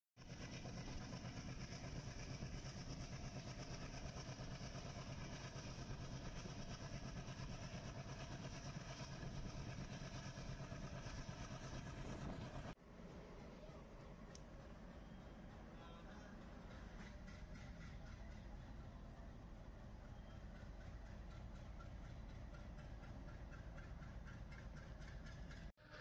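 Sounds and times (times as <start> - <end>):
train rumbling along track: 0.2 - 26.0.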